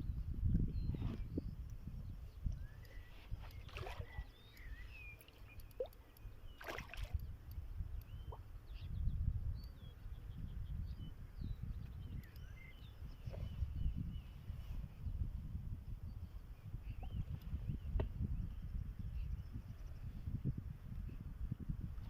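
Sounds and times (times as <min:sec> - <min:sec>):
small birds chirping: 0:00.0 - 0:15.2, 0:16.0 - 0:21.3
wind rumbling on microphone: 0:00.0 - 0:22.0.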